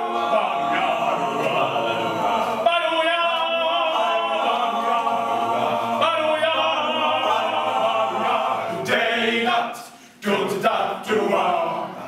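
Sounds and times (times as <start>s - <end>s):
male vocal group singing in harmony: 0.0s - 12.0s.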